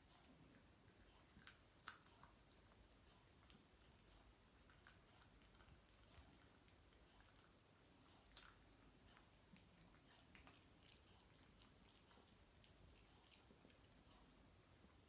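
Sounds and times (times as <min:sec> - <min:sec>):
animals chewing bones: 0:00.0 - 0:15.0.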